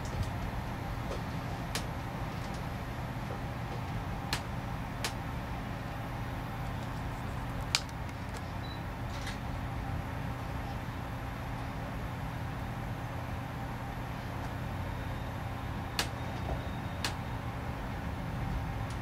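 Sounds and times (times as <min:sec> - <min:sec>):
train car rumbling: 0:00.0 - 0:19.0.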